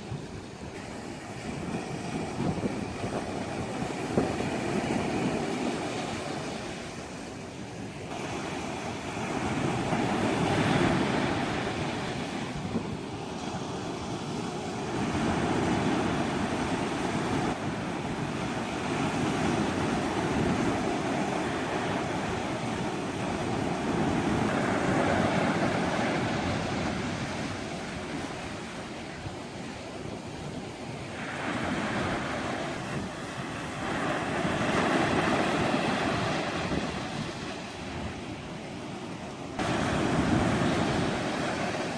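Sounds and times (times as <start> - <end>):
waves breaking: 0.0 - 41.9
wind: 0.0 - 41.9.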